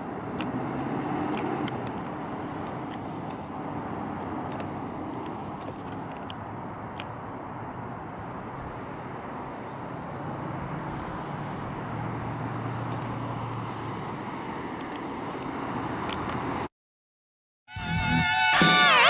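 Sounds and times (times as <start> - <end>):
car engine driving slowly past: 0.0 - 16.7.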